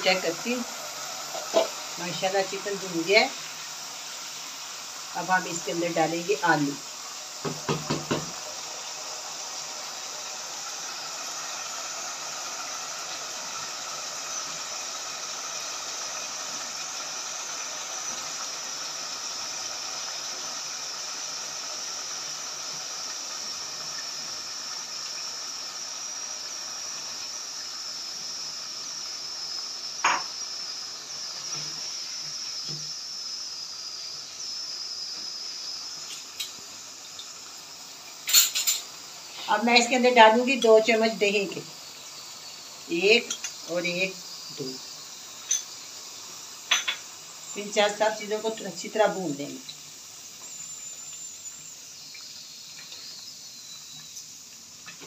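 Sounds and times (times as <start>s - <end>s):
food sizzling in a pot: 0.0s - 55.0s.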